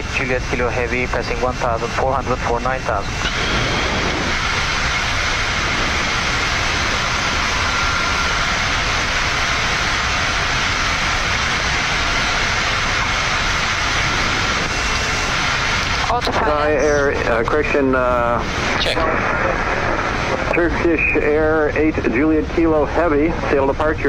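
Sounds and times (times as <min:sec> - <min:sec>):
airflow rush: 0:00.0 - 0:23.6
aircraft engine noise: 0:00.0 - 0:24.0.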